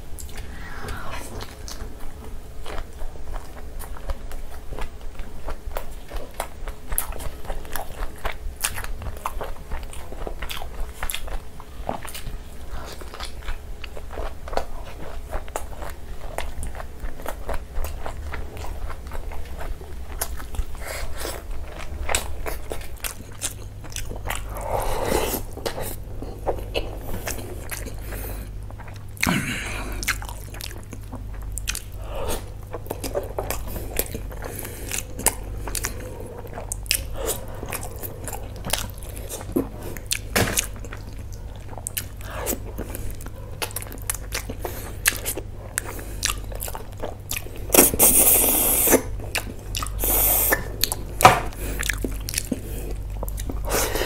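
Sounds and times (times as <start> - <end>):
chewing and biting: 2.6 - 54.0.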